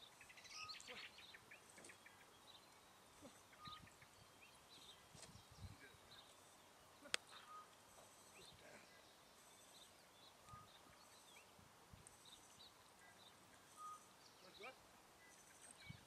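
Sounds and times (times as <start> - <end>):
faint bird chirps and trills: 0.0 - 16.0.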